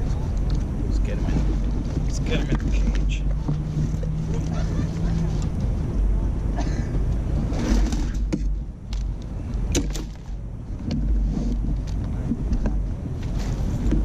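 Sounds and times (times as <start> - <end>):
fishing gear clicks and knocks: 0.0 - 4.6, 7.1 - 14.0
wind buffeting microphone: 0.0 - 14.0.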